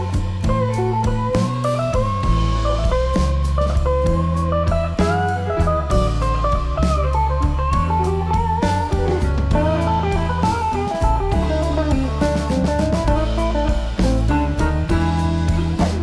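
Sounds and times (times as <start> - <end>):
bass: 0.0 - 16.0
electric guitar melody: 0.0 - 16.0
steady drum beat: 0.0 - 16.0.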